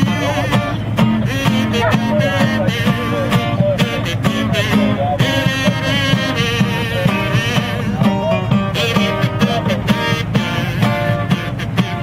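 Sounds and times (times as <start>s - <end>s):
guitar bass notes: 0.0s - 12.0s
sliding guitar melody: 0.0s - 12.0s.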